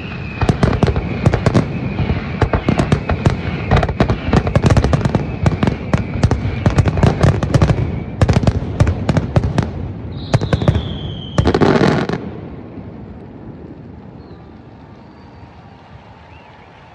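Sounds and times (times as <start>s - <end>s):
falling firework whistle: 0.0s - 12.2s, 14.1s - 16.9s
firework bangs and crackling bursts: 0.0s - 16.9s.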